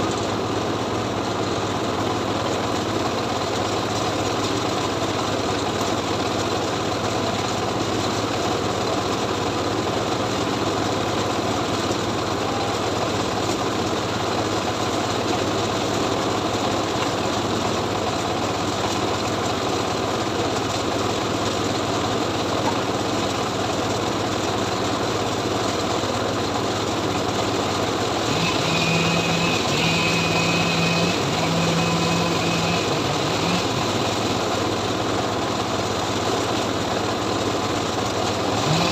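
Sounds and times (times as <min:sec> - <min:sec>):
engine-driven log saw running: 0:00.0 - 0:38.9.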